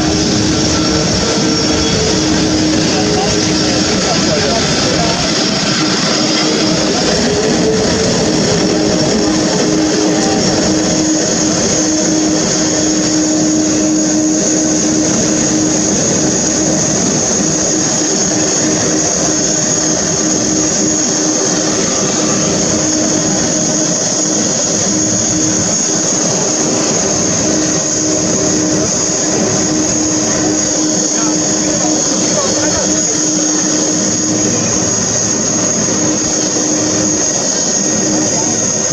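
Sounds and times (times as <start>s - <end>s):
high engine whine: 0.0s - 38.9s
jet engines humming: 0.0s - 38.9s.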